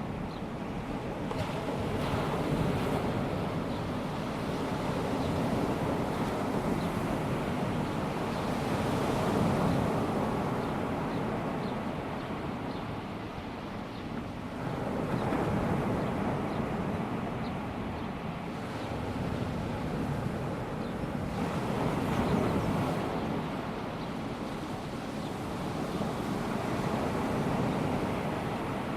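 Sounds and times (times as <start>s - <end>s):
small waves washing onto beach: 0.0s - 28.9s.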